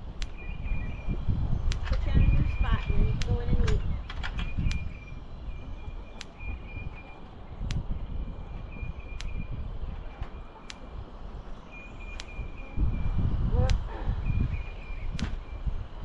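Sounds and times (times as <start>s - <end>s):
electric fence charger ticking: 0.0s - 16.0s
wind buffeting microphone: 0.0s - 16.0s.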